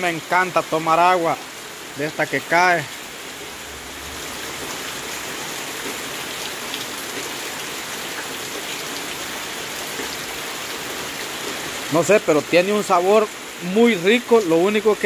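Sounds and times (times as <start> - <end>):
rain falling into puddles: 0.0 - 15.0.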